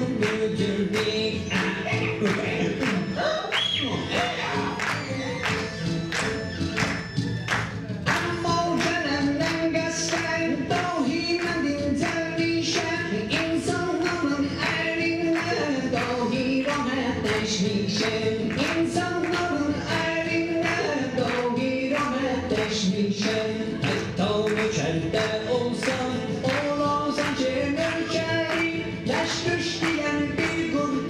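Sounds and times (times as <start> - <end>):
person singing: 0.0 - 5.8, 8.1 - 31.0
percussion beat: 0.0 - 31.0.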